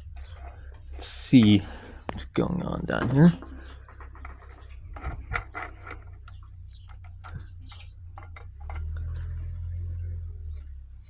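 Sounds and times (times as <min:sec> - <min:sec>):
metal tools clicking and tapping: 0:00.0 - 0:09.4
steady low hum: 0:00.0 - 0:11.0.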